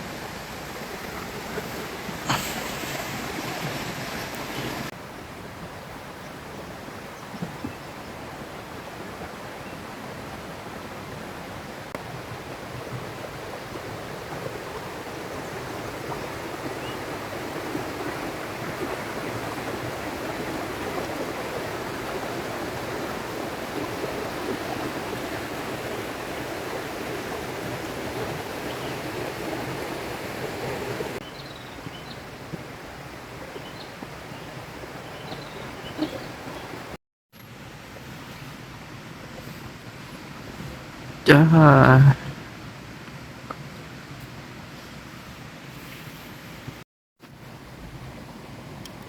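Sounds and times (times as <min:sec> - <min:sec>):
river water flowing: 0:00.0 - 0:49.0.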